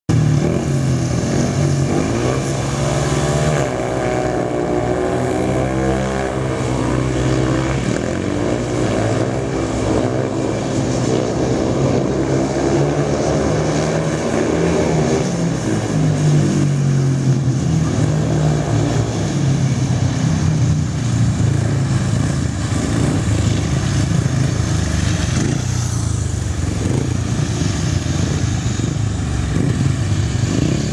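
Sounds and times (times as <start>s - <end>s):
motorcycles racing revving: 0.1s - 30.9s.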